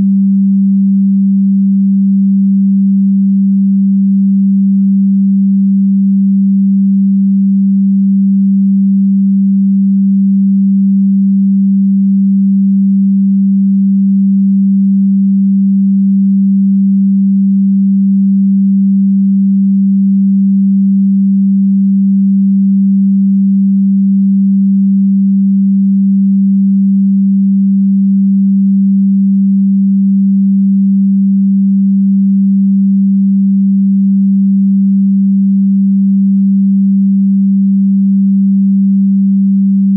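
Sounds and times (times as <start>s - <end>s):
low electronic tone: 0.0s - 39.9s.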